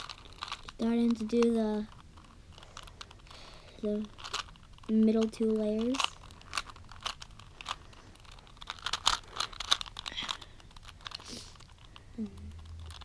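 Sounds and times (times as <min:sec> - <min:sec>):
puzzle cube plastic clicks: 0:00.0 - 0:13.0.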